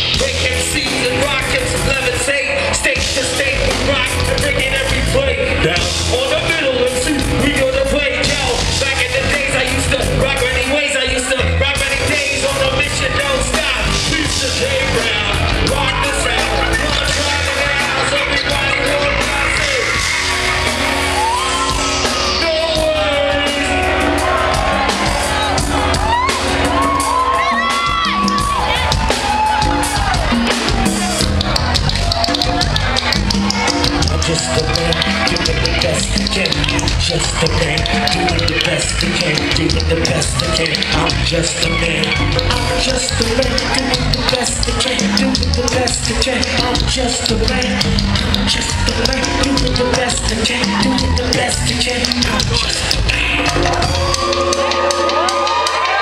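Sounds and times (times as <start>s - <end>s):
loud live music with vocals: 0.0s - 56.0s
voices yelling: 0.5s - 56.0s.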